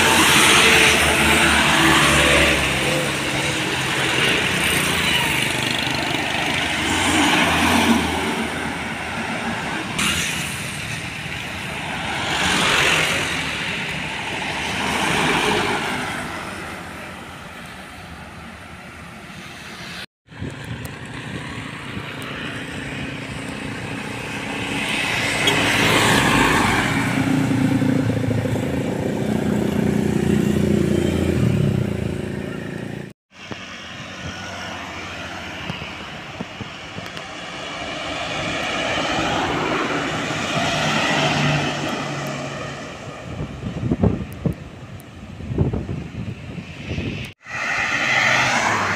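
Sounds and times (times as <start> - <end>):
motorcycles passing: 0.0 - 17.6, 19.9 - 44.6
cars passing: 0.0 - 48.9
trucks passing: 0.0 - 48.9.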